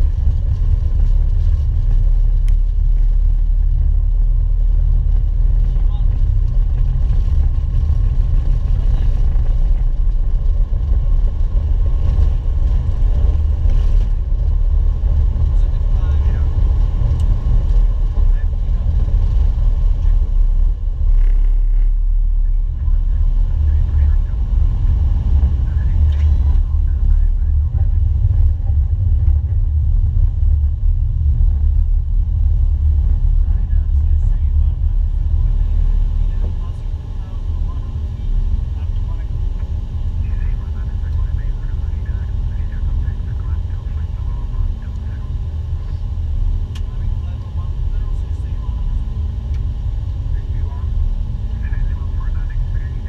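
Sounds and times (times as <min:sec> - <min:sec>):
airflow and engine rumble in cockpit: 0:00.0 - 0:53.0.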